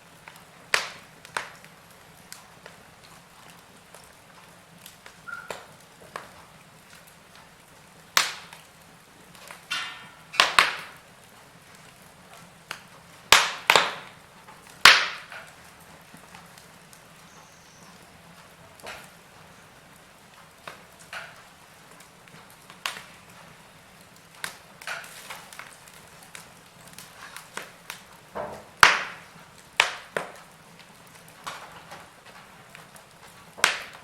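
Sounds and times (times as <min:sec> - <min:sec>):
faint steady hiss: 0:00.0 - 0:34.0
wood fire crackling and popping: 0:00.0 - 0:34.0.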